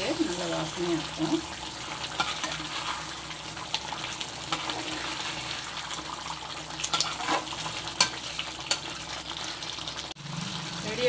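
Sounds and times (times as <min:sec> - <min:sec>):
gravy simmering and bubbling: 0:01.0 - 0:10.8.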